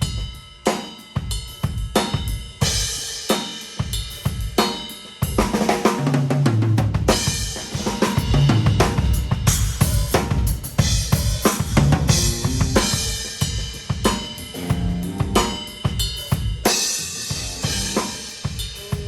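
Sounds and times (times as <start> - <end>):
acoustic drum kit playing: 0.0 - 19.0.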